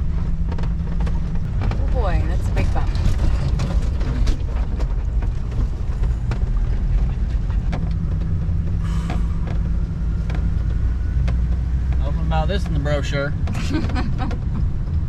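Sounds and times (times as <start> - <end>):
engine and road rumble: 0.0 - 15.0
knocks and rattles over bumps: 0.0 - 15.0.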